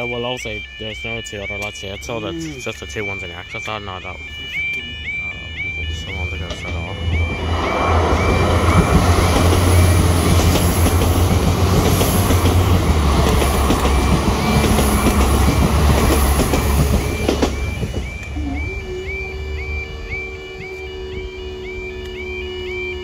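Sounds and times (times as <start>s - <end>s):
train diesel engines running: 0.0s - 23.0s
warbling crossing alarm: 0.0s - 23.0s.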